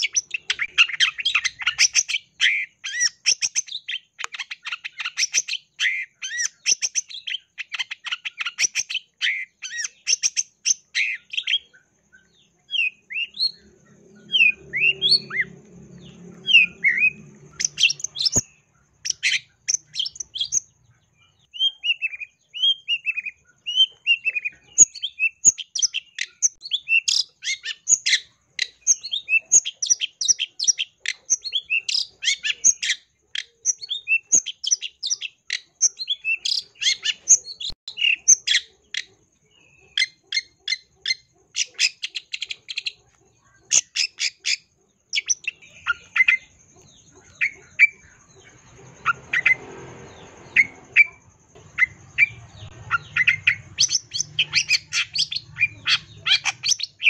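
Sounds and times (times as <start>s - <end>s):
bird chattering song: 0.0s - 57.0s.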